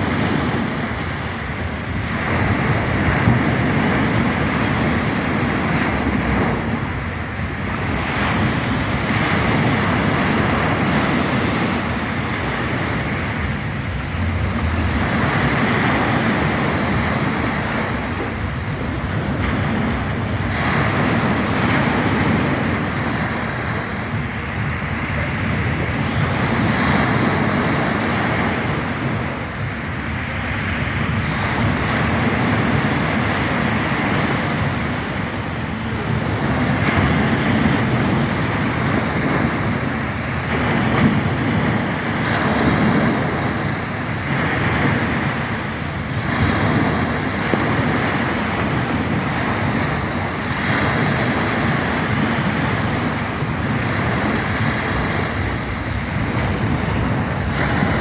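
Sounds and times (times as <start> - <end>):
sea surf washing ashore: 0.0 - 58.0
wind noise on microphone: 0.0 - 58.0.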